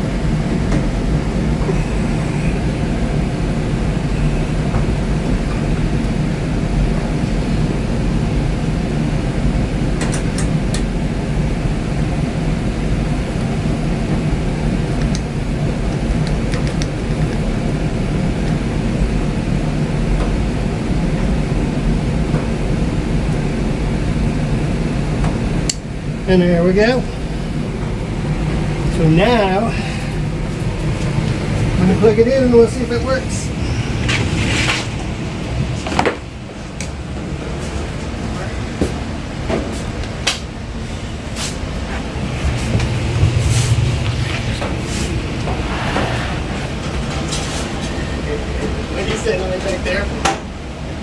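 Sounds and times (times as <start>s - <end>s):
mechanical drone with low hum: 0.0s - 51.0s.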